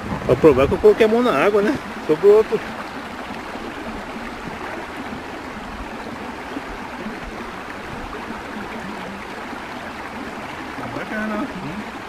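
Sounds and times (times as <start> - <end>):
stream babbling over stones: 0.0 - 12.0.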